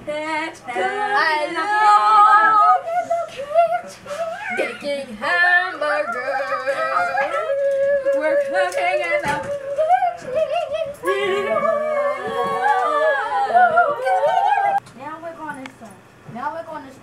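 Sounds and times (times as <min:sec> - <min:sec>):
girls singing playfully: 0:00.0 - 0:14.8.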